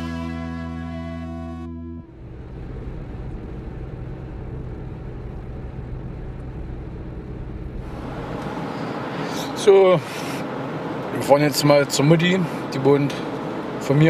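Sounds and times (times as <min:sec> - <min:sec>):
car engine hum: 0:01.9 - 0:14.0
tyre and road noise: 0:02.1 - 0:14.0.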